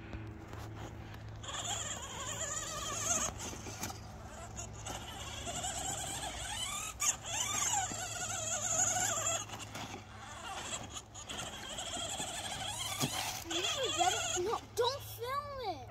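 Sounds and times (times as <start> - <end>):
toy truck electric motor whining: 0.5 - 15.2.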